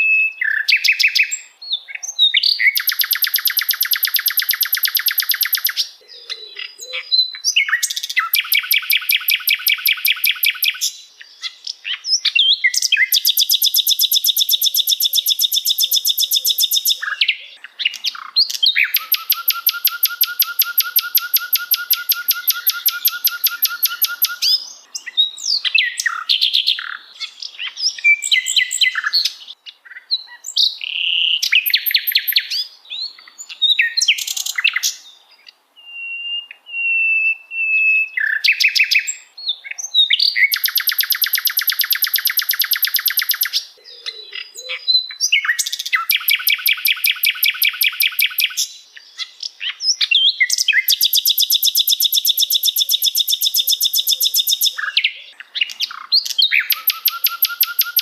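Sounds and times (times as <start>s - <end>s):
songbird trilling and chirping: 0.0s - 58.0s.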